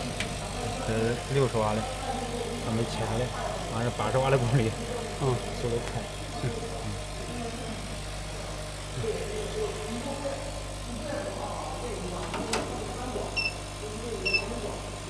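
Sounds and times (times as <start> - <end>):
faint voices: 0.0 - 15.0
low electrical hum: 0.0 - 15.0.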